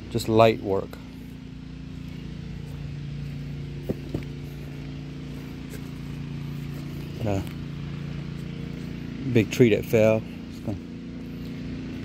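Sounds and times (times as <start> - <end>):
water pump engine hum: 0.0 - 12.0.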